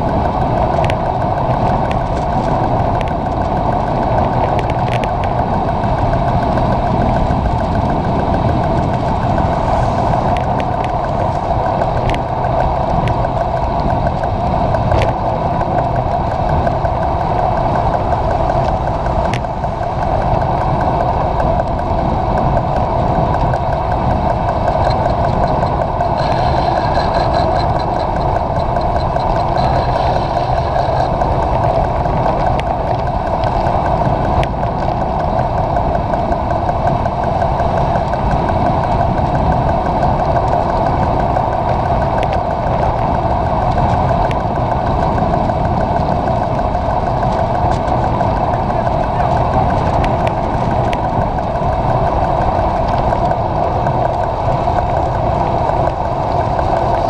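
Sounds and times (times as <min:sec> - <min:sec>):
bike tyres on wet road: 0:00.0 - 0:57.0
wind rushing: 0:00.0 - 0:57.0.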